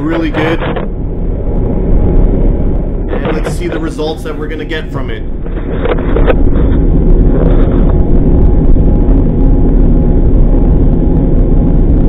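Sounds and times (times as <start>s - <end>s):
faint hum: 0.0s - 12.0s
loud low rumble: 0.0s - 12.0s.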